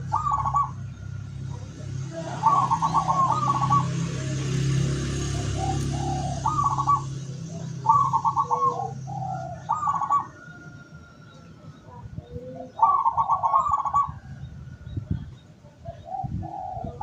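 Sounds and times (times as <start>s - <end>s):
dove cooing with trilled coos: 0.0s - 17.0s.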